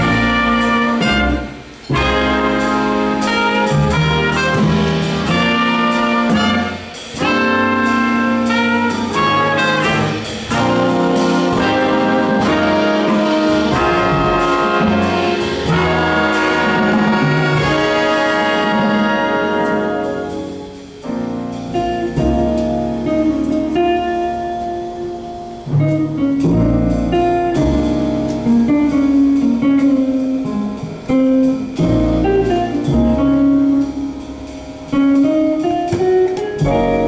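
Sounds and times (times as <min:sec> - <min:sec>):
jazz big band playing: 0:00.0 - 0:37.0.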